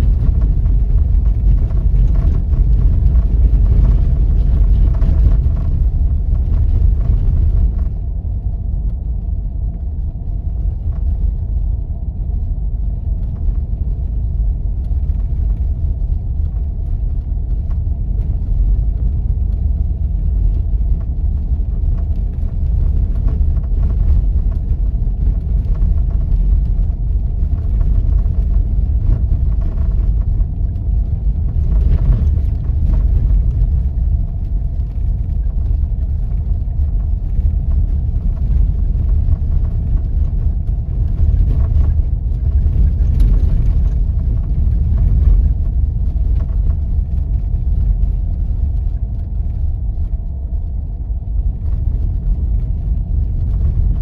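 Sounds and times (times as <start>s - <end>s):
engine and tyres rumbling: 0.0s - 54.0s
faint hum: 0.0s - 54.0s.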